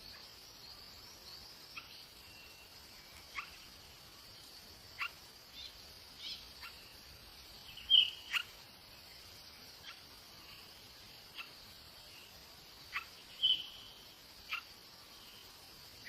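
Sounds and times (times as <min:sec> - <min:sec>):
sharp bird chirps: 0:00.0 - 0:15.6
crickets droning: 0:00.0 - 0:16.0.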